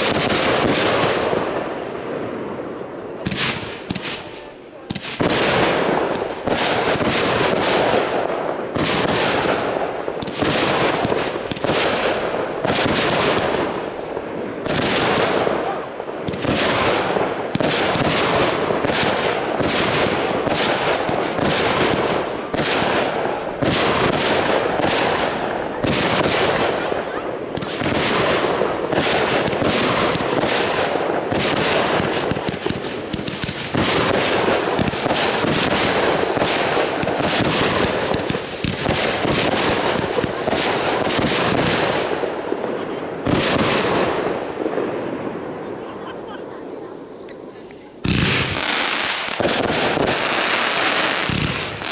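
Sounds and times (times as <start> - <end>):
fireworks bangs: 0.0 - 51.9
fireworks crackling: 0.0 - 51.9.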